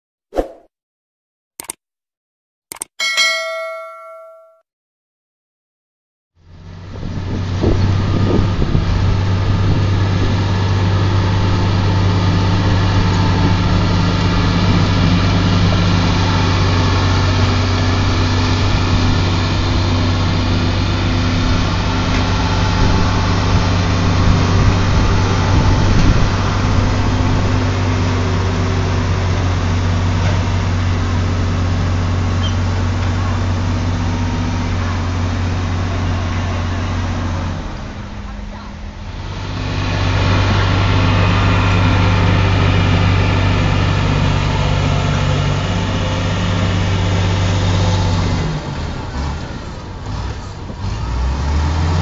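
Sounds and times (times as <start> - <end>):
bulldozer diesel engine running: 6.4 - 52.0.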